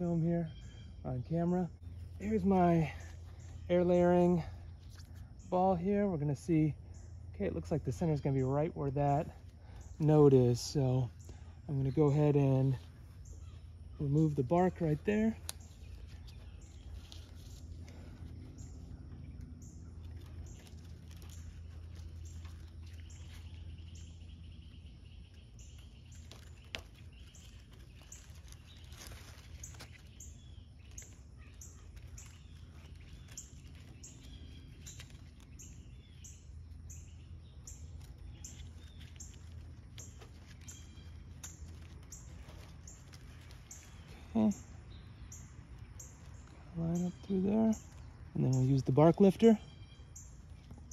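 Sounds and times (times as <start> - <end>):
birds chirping: 0.0 - 50.9
steady low rumble: 0.0 - 50.9.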